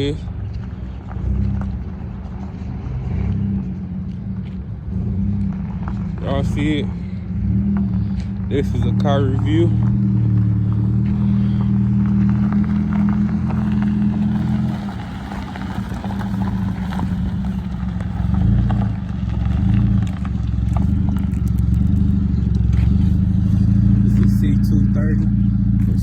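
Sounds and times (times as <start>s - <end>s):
car engine with low exhaust drone: 0.0s - 26.0s.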